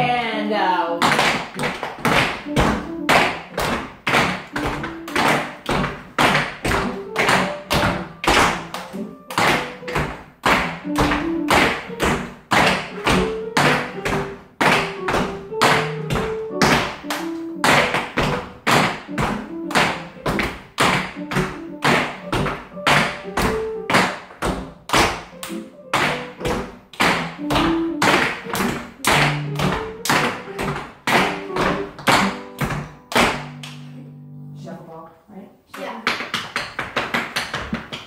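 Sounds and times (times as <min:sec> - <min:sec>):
dance music with sharp taps: 0:01.0 - 0:33.9, 0:35.8 - 0:38.0.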